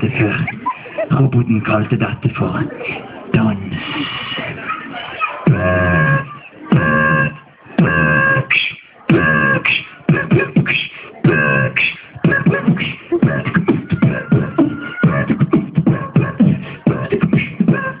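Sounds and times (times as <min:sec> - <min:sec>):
beatboxing: 0:00.0 - 0:18.0.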